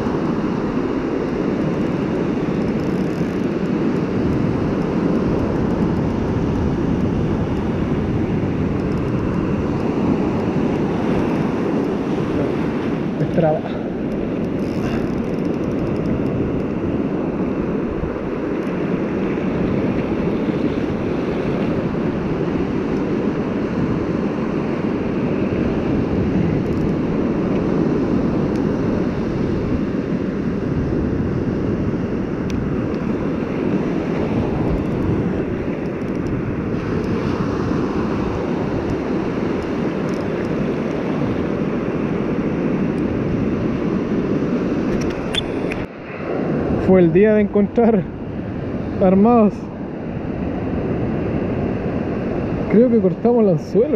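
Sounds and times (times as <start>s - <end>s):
ocean surf breaking: 0.0s - 53.9s
wind buffeting microphone: 0.0s - 53.9s.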